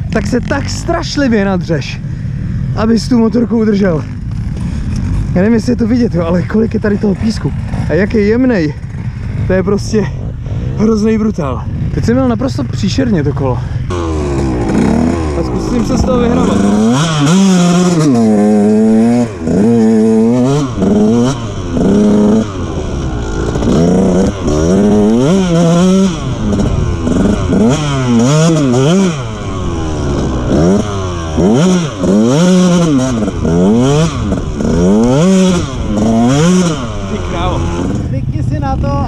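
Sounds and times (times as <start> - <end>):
two-stroke motorbike engine revving: 0.0 - 1.8, 2.7 - 39.0.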